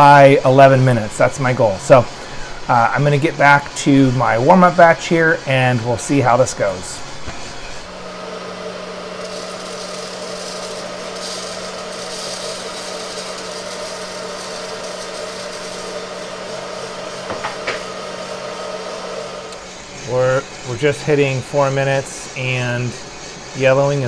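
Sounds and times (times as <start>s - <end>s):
coffee roaster humming and rattling: 0.0s - 24.0s.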